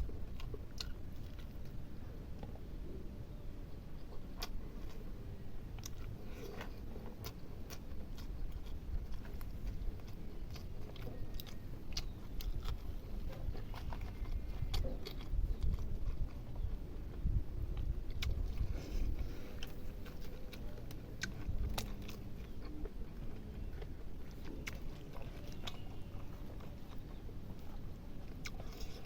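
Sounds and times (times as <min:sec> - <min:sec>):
person chewing food: 0:00.0 - 0:02.6, 0:04.0 - 0:29.0
low steady rumble: 0:00.0 - 0:29.0.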